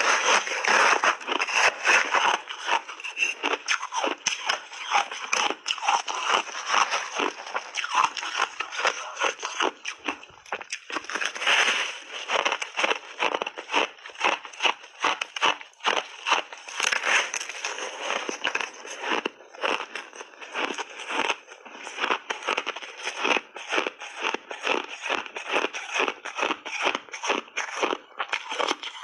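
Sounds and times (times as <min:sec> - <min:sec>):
chewing ice crunches: 0:00.0 - 0:29.0.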